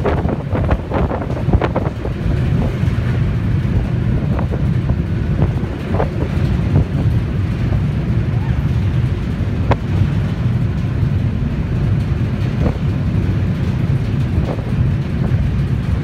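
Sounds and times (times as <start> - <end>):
boat engine rumble: 0.0 - 16.0
wind buffeting microphone: 0.0 - 16.0.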